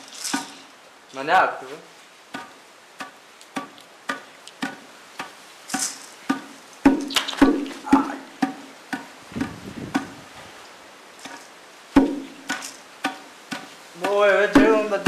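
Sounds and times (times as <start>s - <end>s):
hollow wooden knocks: 2.3s - 10.6s, 11.2s - 15.0s.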